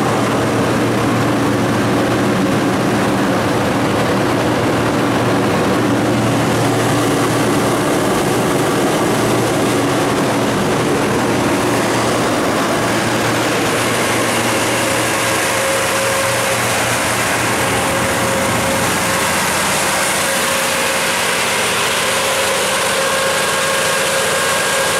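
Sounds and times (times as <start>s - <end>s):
gas engine running steadily: 0.0s - 24.9s.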